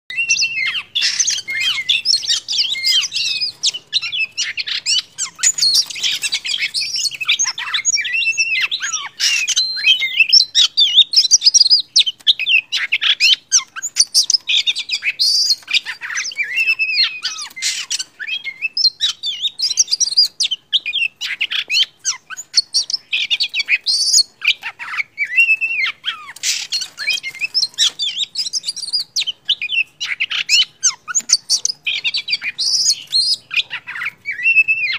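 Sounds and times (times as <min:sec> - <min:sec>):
bird singing whistled phrases: 0:00.1 - 0:34.9.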